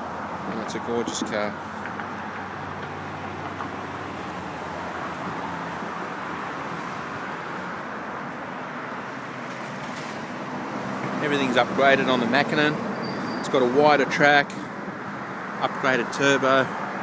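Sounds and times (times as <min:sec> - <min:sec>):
road traffic rushing past: 0:00.0 - 0:17.0.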